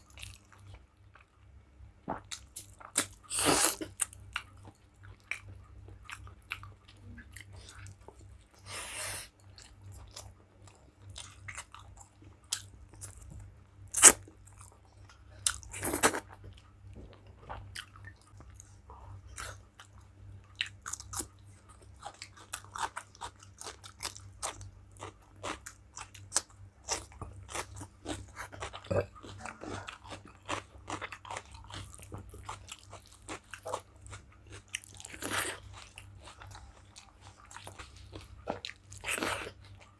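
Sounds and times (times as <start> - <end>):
person chewing and crunching: 0.0 - 1.4, 2.0 - 39.9.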